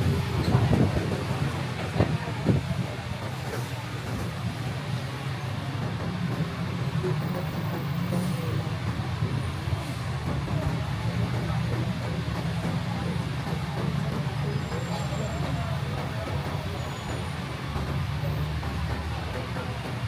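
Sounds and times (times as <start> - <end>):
bus engine rumbling: 0.0 - 20.0
city traffic: 0.0 - 20.0.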